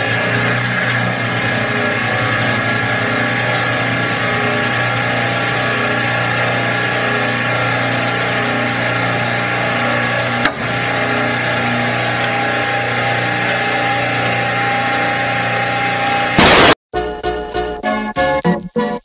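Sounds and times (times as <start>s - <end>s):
hydraulic press humming: 0.0s - 16.8s.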